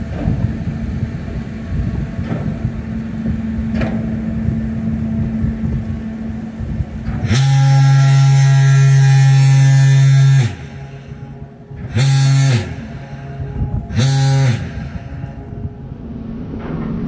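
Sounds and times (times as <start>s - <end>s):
deep ship horn blasts: 0.0s - 17.0s.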